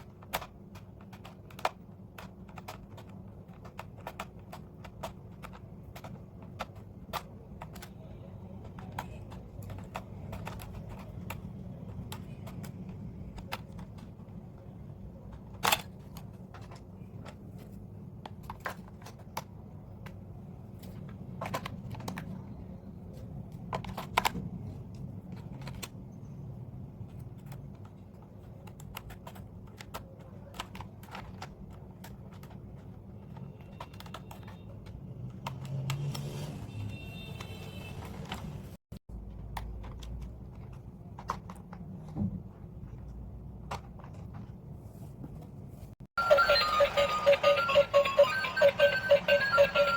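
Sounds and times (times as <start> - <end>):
plastic pieces clicking and tapping: 0.0 - 26.0, 27.0 - 36.0, 39.2 - 44.5.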